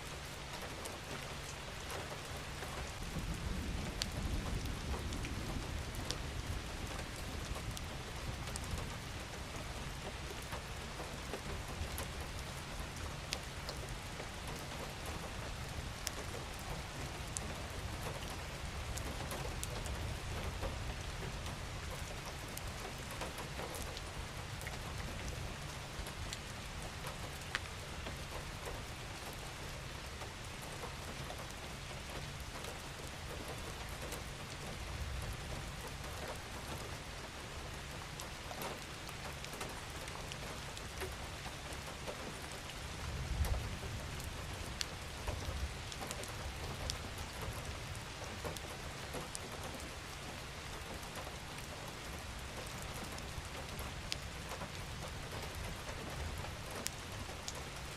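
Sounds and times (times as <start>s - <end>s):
gentle rain hissing: 0.0s - 57.9s
raindrops ticking: 0.1s - 57.9s.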